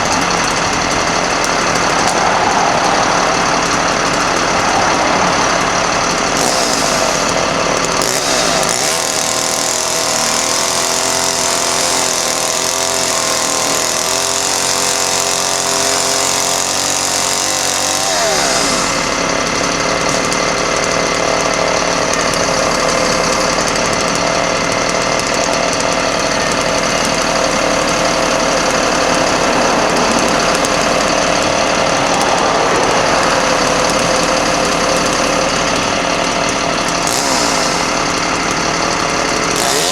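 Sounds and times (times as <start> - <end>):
diesel truck engine clattering: 0.0 - 39.9.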